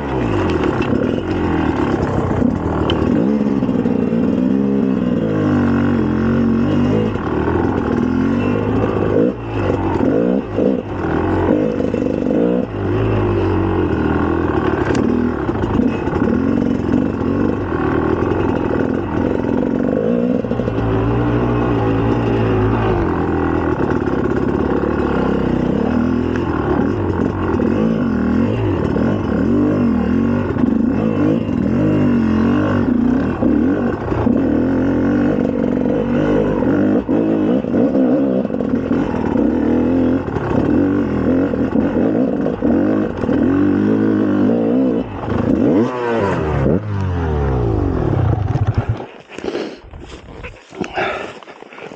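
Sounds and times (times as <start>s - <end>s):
two-stroke engine revving: 0.0s - 51.9s.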